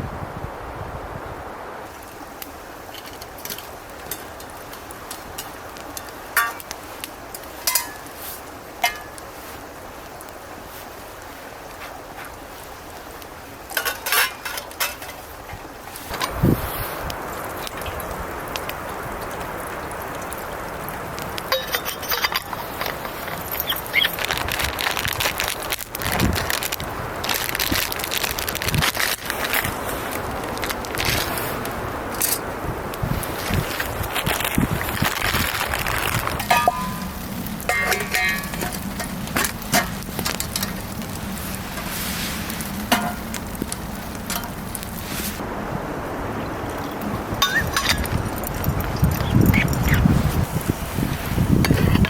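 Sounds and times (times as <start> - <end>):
wood fire crackling: 0.2 - 52.0.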